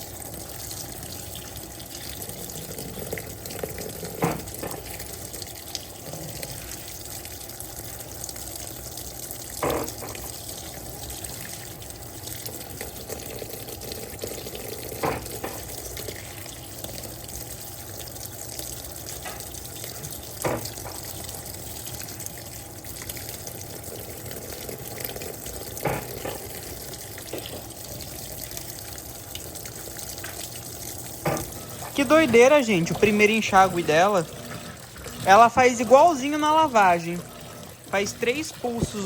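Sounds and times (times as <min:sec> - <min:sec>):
water running into tub: 0:00.0 - 0:39.0.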